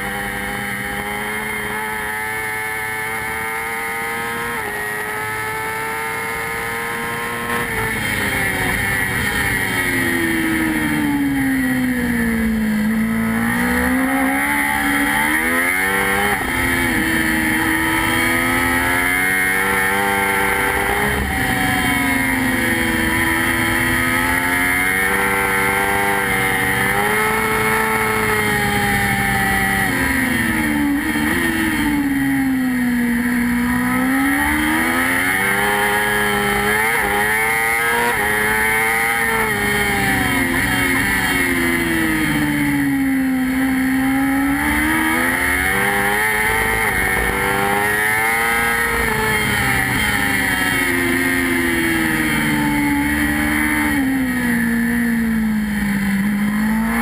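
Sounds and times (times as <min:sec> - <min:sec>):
motorcycle engine at racing speed: 0:00.0 - 0:57.0.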